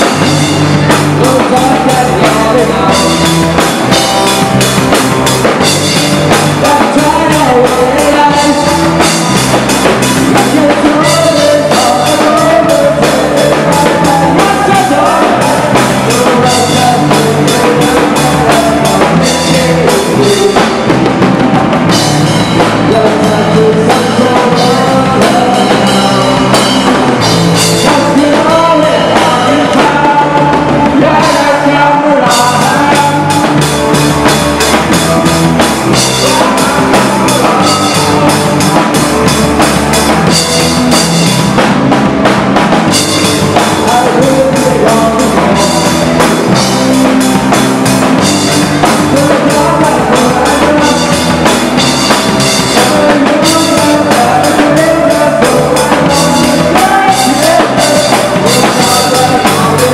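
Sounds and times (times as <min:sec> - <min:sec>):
man singing: 0:00.0 - 0:42.0, 0:42.8 - 0:59.9
live rock band playing: 0:00.0 - 0:59.9.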